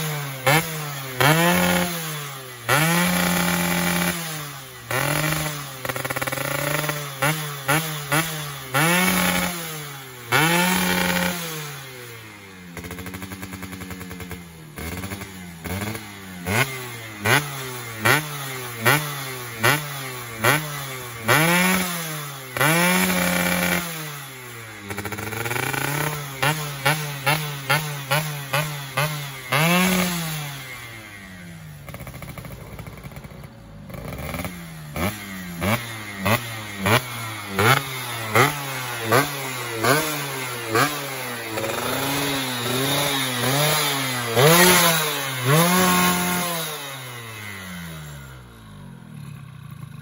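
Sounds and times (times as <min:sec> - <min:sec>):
two-stroke engine revving: 0:00.0 - 0:50.0.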